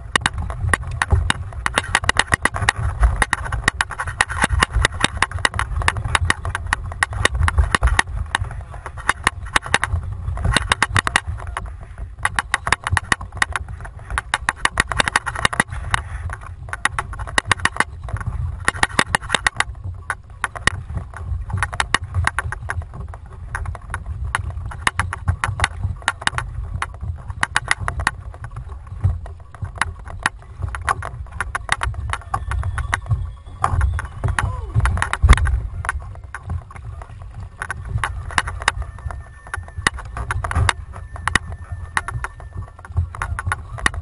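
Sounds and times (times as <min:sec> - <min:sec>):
wind rumble on microphone: 0:00.0 - 0:44.0.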